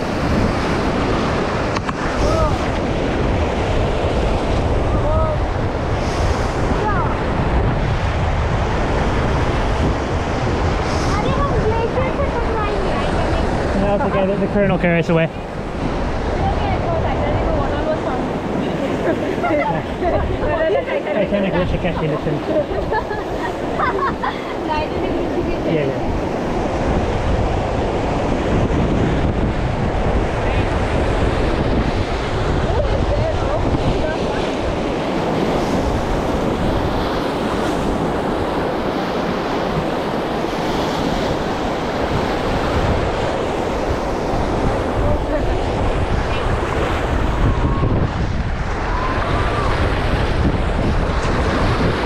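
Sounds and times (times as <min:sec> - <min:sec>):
river water rushing: 0:00.0 - 0:52.0
wind buffeting microphone: 0:00.0 - 0:52.0.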